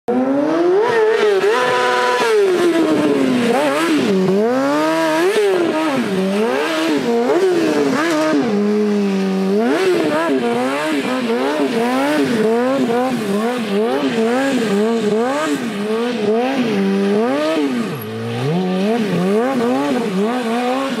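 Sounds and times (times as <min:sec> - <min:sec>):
motorcycle engine revving: 0:00.1 - 0:21.0.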